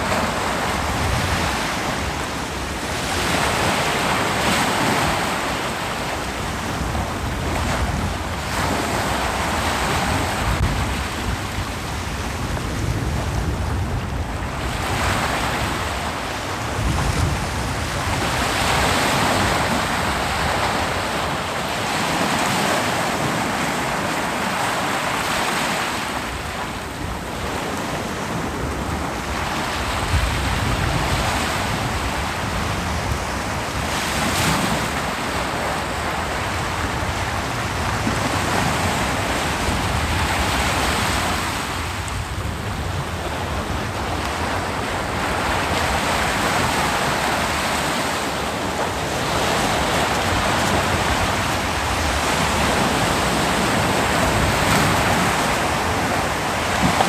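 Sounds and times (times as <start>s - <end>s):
ocean waves breaking on beach: 0.0s - 57.0s
wind: 0.0s - 57.0s.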